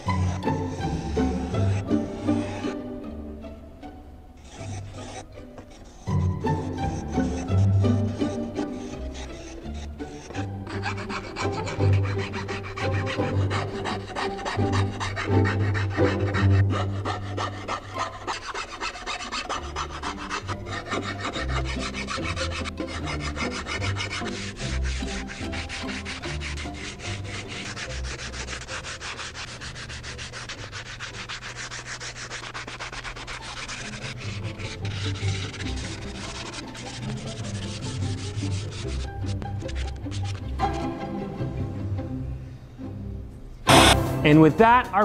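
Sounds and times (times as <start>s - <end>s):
sandpaper rubbing wood: 0.0s - 2.8s, 4.4s - 40.8s, 43.7s - 44.0s
hand file rubbing wood: 0.0s - 3.1s, 4.4s - 41.6s, 43.7s - 44.4s.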